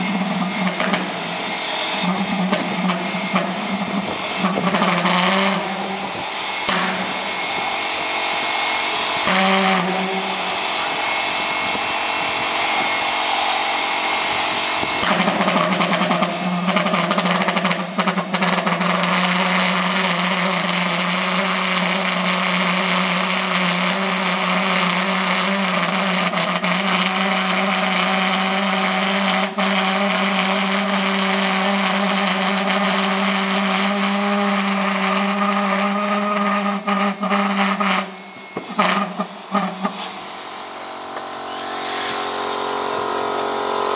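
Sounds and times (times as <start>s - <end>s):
pulse jet engine buzzing: 0.0s - 43.9s.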